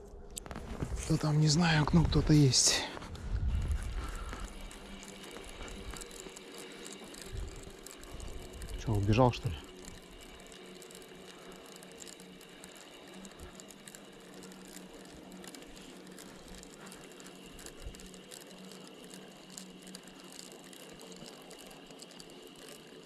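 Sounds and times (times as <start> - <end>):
fishing reel whirring and clicking: 0.0 - 23.0.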